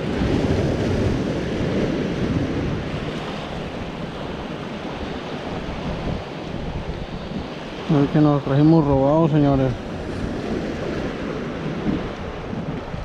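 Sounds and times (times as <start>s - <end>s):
surf washing against rocks: 0.0s - 13.0s
wind buffeting microphone: 0.0s - 13.0s.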